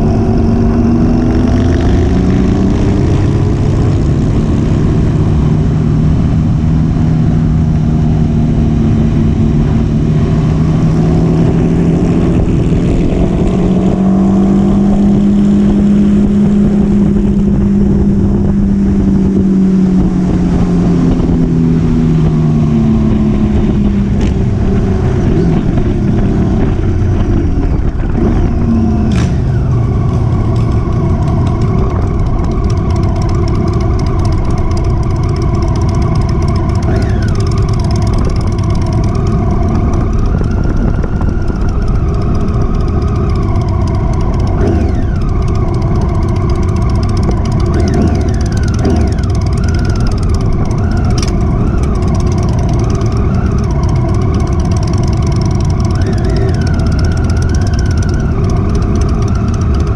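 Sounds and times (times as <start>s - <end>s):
motorcycle engine running: 0.0s - 59.9s
wind rush: 0.0s - 59.9s.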